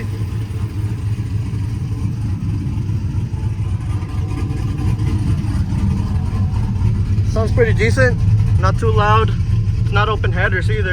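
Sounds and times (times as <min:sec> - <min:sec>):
pickup truck engine idling: 0:00.0 - 0:10.9.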